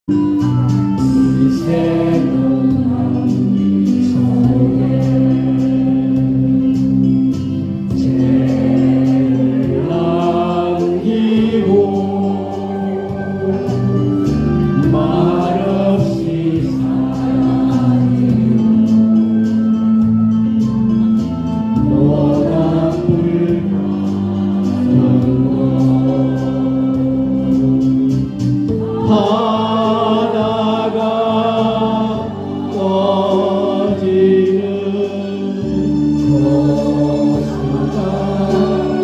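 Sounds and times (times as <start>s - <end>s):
choir-like chords: 0.1s - 39.0s
slow song with vocals: 0.1s - 39.0s.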